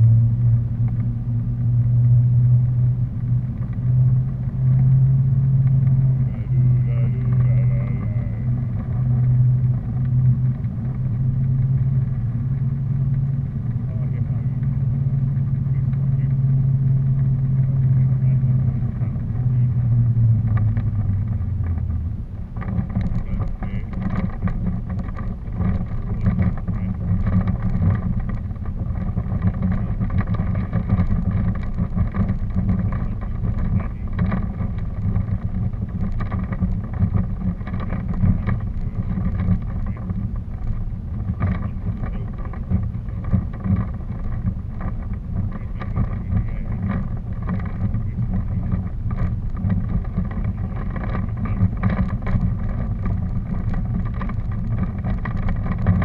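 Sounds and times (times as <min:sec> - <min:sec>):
faint steady hum: 0:00.0 - 0:56.0
wind rumble on microphone: 0:00.0 - 0:56.0.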